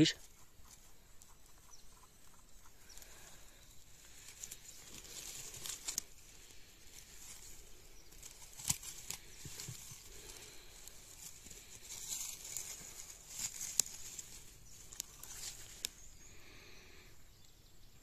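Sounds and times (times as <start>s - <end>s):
hand rustling grass and leaves: 2.7s - 17.1s.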